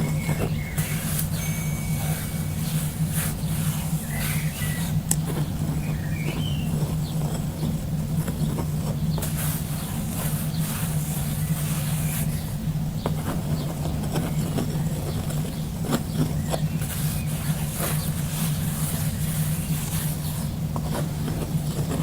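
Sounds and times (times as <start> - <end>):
bird chirp: 0.0 - 7.7, 8.4 - 20.6
steady low hum: 0.0 - 22.0.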